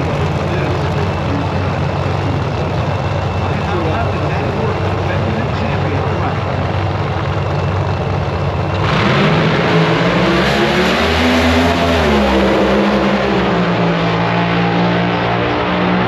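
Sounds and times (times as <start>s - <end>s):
drag racing car engines: 0.0s - 16.0s.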